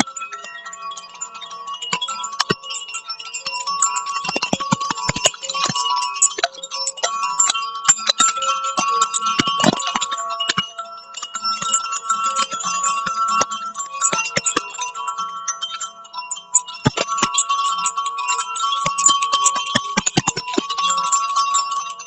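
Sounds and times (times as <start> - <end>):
chimes ringing: 0.0 - 22.0.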